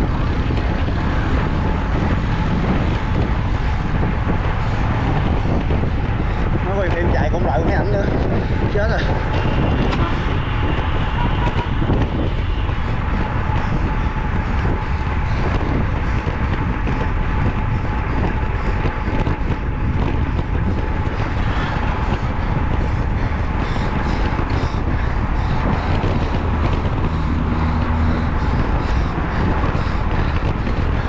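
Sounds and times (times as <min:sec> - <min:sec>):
motor vehicle running: 0:00.0 - 0:31.0
wind rumble on microphone: 0:00.0 - 0:31.0.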